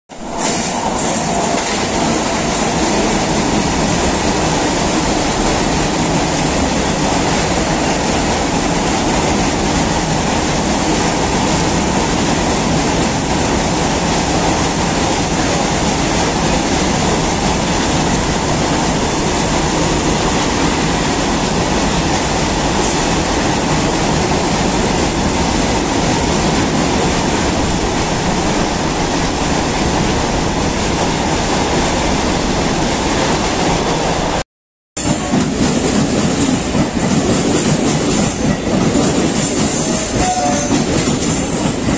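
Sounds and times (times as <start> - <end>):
train wheels rumbling on rails: 0.1 - 34.4, 35.0 - 41.9.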